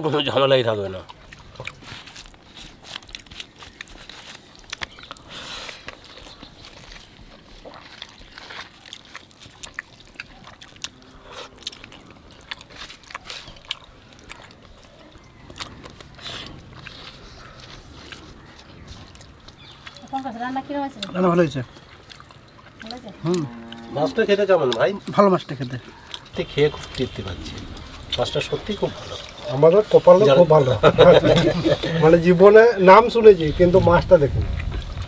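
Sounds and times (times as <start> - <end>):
person chewing: 1.0 - 20.1, 20.9 - 23.9, 24.7 - 32.1.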